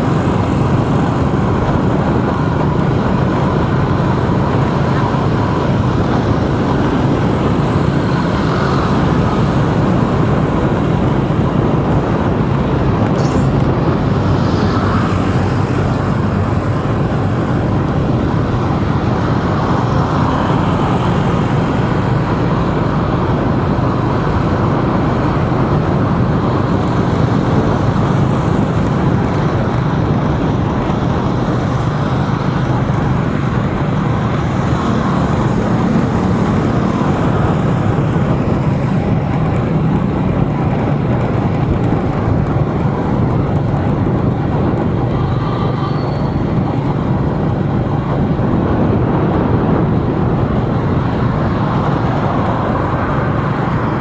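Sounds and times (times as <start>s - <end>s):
surrounding traffic: 0.0s - 54.0s
vehicle engine and tyre rumble: 0.0s - 54.0s.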